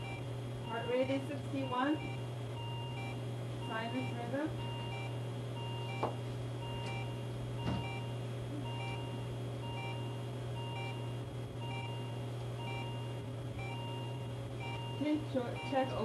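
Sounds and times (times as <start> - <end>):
patient monitor two-note beep: 0.0 - 16.0
steady low hum: 0.0 - 16.0.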